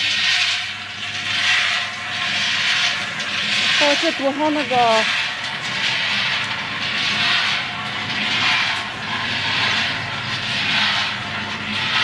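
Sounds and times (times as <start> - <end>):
roaster low hum: 0.0 - 12.0
rotating drum rushing noise: 0.0 - 12.0.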